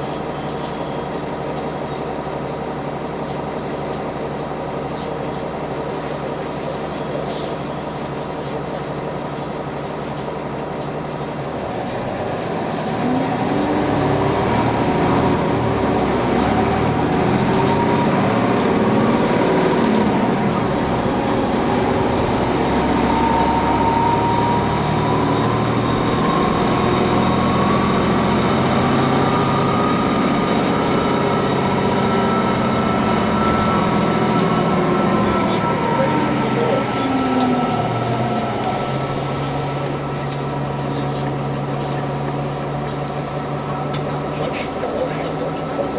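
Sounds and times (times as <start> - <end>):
bus engine running: 0.0 - 45.9
drivetrain whine: 0.0 - 45.9.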